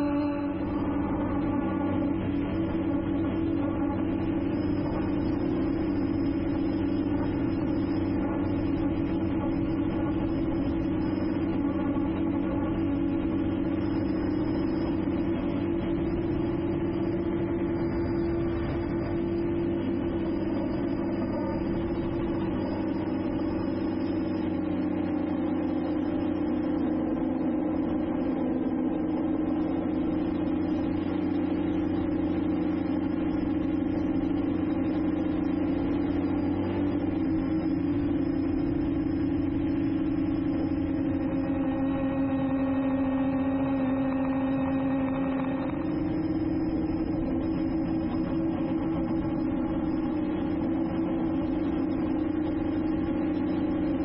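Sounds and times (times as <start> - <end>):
drone propellers humming: 0.0 - 54.0.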